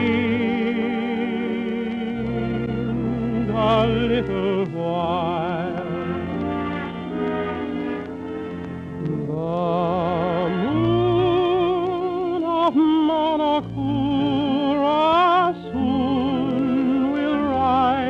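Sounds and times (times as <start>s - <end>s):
tenor singing a ballad: 0.0s - 8.0s, 8.9s - 18.0s
orchestra accompaniment: 0.0s - 18.0s.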